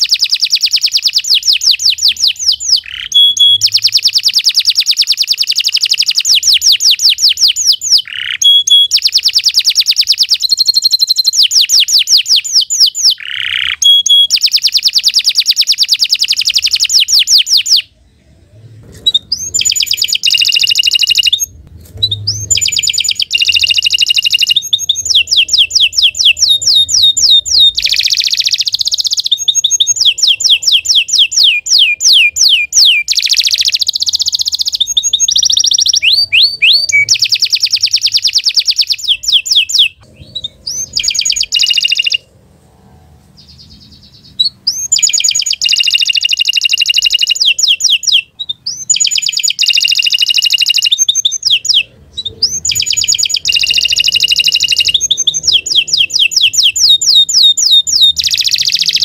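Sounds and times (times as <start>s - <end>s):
canary singing trills: 0.0s - 42.4s, 43.0s - 59.0s.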